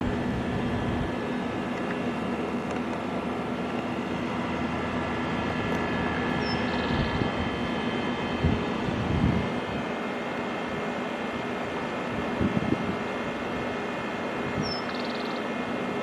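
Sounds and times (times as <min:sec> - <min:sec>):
mechanical drone with hum: 0:00.0 - 0:16.0.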